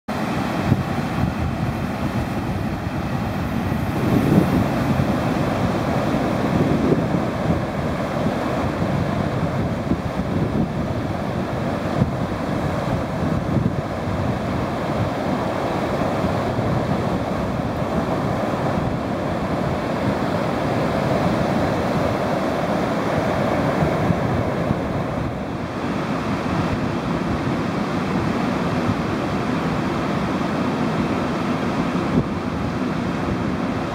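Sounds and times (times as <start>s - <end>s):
surf breaking on beach: 0.1s - 33.9s
wind buffeting microphone: 0.1s - 33.9s.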